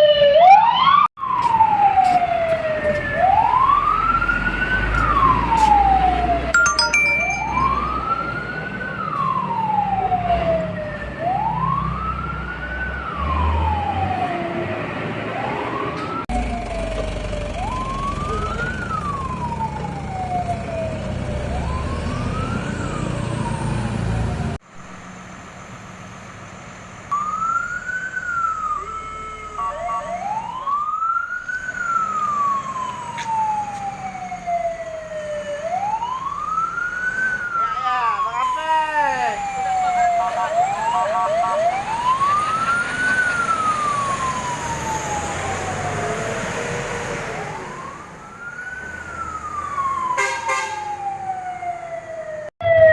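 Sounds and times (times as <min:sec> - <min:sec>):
fire truck siren wailing: 0:00.0 - 0:52.9.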